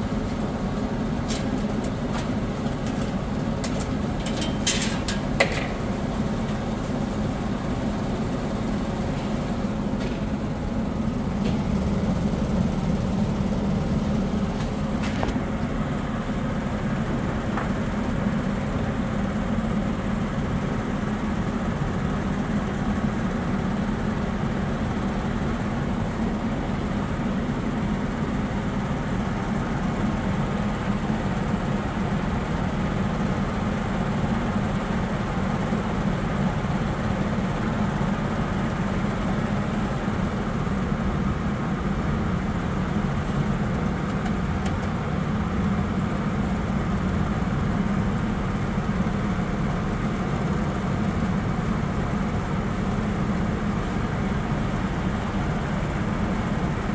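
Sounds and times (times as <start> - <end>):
furnace blower motor humming: 0.0 - 56.9.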